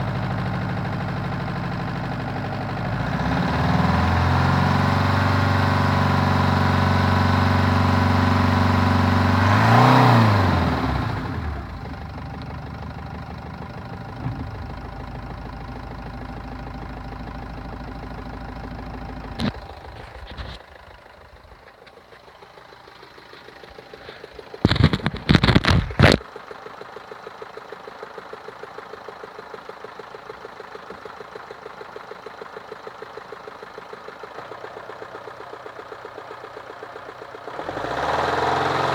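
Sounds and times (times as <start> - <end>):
car engine revving and idling: 0.0 - 38.9
engine knocking: 0.0 - 38.9.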